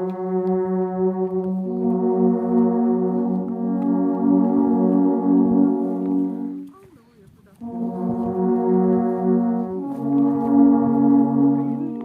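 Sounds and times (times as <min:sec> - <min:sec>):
alphorns playing in harmony: 0:00.0 - 0:06.8, 0:07.6 - 0:12.0.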